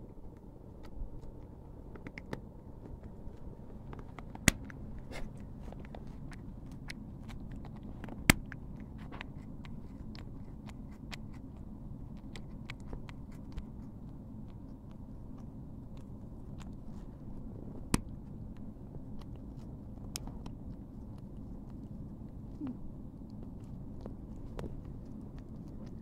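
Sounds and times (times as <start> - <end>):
cat licking its fur: 3.0 - 26.0.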